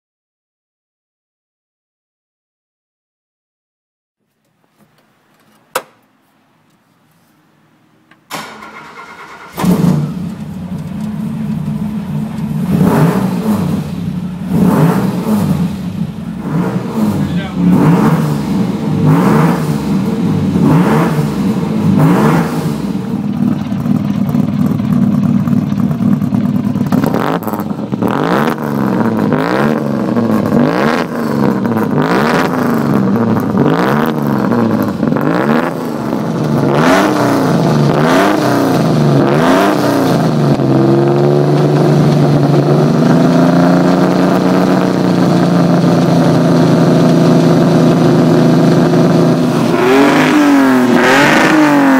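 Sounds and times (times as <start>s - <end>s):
racing engine revving: 8.5s - 51.9s.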